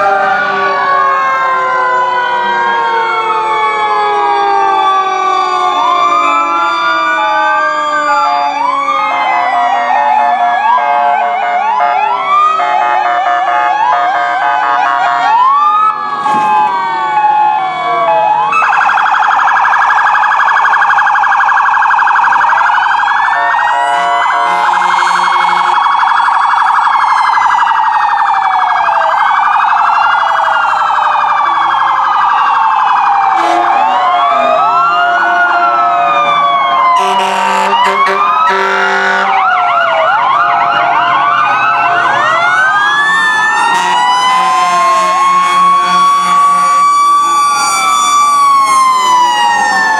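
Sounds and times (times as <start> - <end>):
emergency sirens wailing: 0.0 - 49.9
siren yelping: 0.0 - 49.9
steady pitched siren tones: 0.0 - 49.9.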